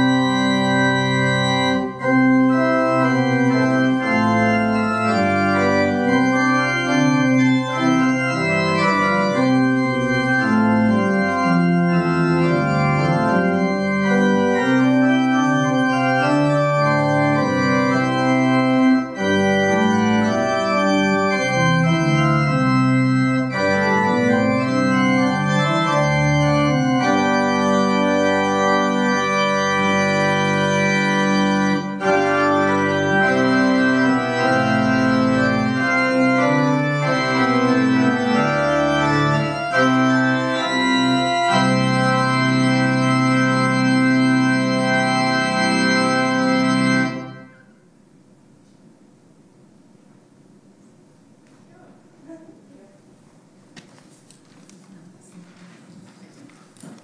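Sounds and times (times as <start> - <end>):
organ playing slow chords: 0.0 - 51.4.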